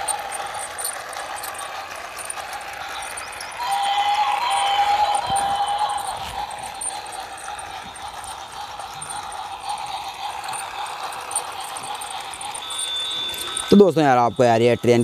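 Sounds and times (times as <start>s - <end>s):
light rattling: 0.0s - 13.8s
toy train motor whirring: 0.0s - 15.0s.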